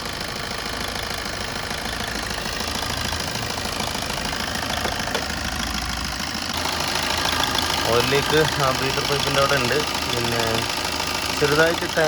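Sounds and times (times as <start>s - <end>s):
diesel engine idling: 0.0s - 12.0s
light even engine knocking: 0.0s - 12.0s.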